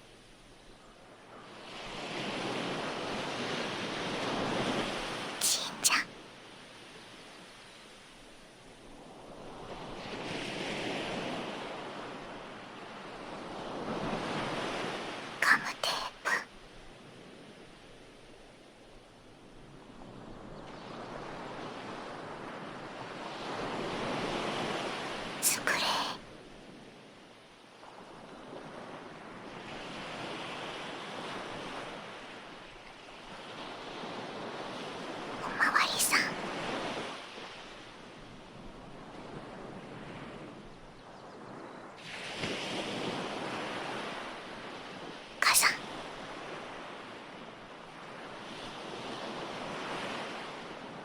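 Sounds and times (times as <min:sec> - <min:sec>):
ocean waves breaking on shore: 0:01.3 - 0:05.4, 0:06.0 - 0:15.4, 0:19.4 - 0:25.4, 0:26.3 - 0:35.7, 0:36.3 - 0:51.0.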